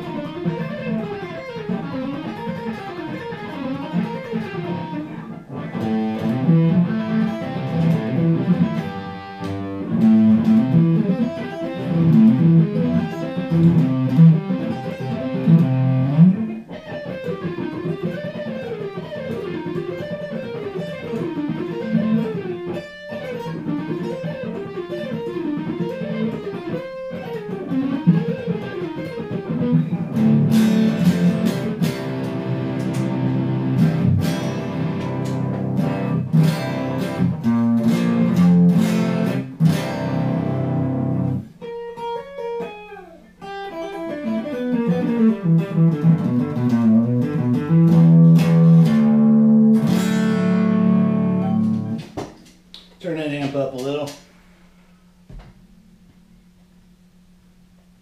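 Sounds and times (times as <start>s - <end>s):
electric guitar played fast: 0.0s - 52.1s.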